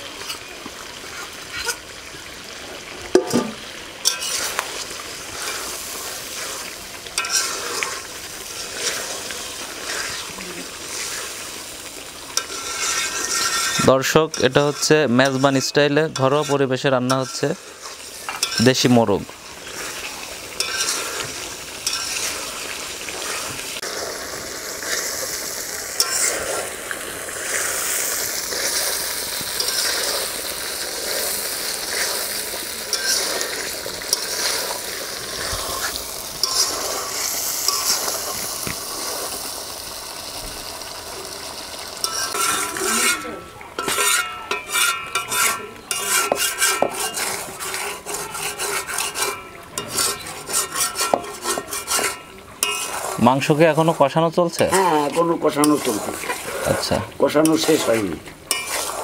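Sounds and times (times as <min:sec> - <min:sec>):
chicken sizzling in a pan: 0:00.0 - 0:59.0
metal spatula scraping a pan: 0:00.2 - 0:01.9, 0:03.2 - 0:39.3, 0:42.0 - 0:59.0.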